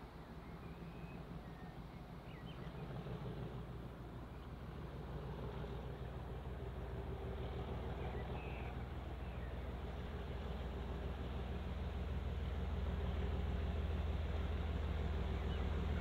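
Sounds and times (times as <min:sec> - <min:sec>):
locomotive engine droning: 0:00.0 - 0:16.0.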